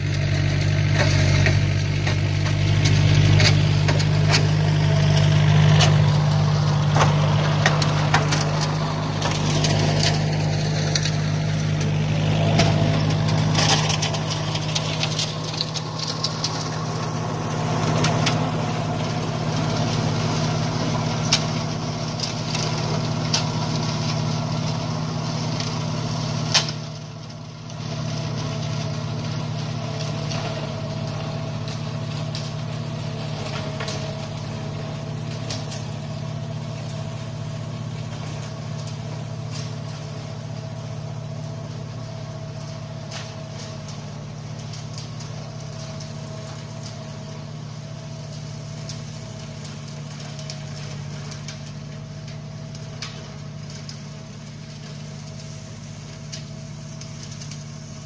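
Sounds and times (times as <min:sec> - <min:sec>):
flail mower turning: 0:00.0 - 0:58.0
tractor diesel engine running: 0:00.0 - 0:58.0.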